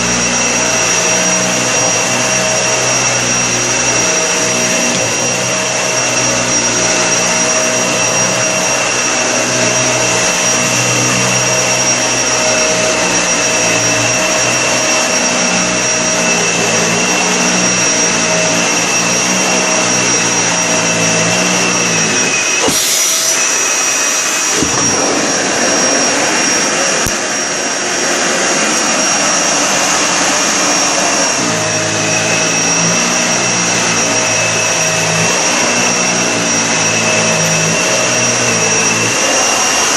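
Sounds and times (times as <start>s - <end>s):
vacuum cleaner running over carpet: 0.0s - 39.9s.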